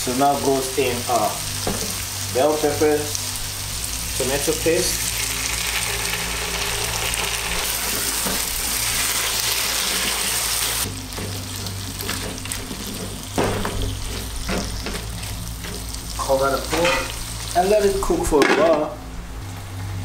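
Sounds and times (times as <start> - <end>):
vegetables sizzling in hot oil: 0.0 - 18.3.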